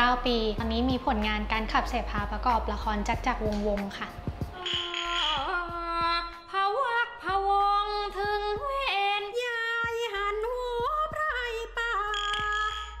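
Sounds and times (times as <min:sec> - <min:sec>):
woman chanting: 0:00.0 - 0:12.2.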